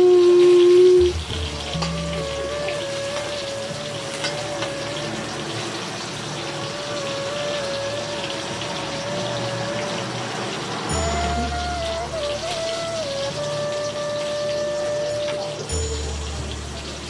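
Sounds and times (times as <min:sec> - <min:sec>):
oil sizzling: 0:00.0 - 0:17.0
background music: 0:00.3 - 0:17.0.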